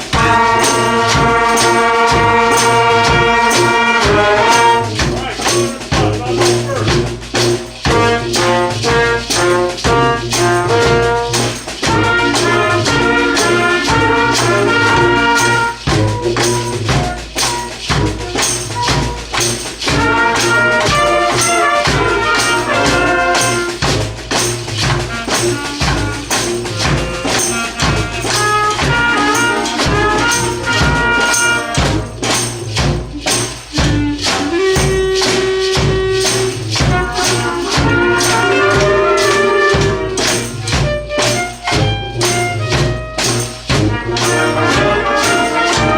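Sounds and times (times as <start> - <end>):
percussion beat: 0.0 - 45.9
street brass band playing rock: 0.0 - 45.9.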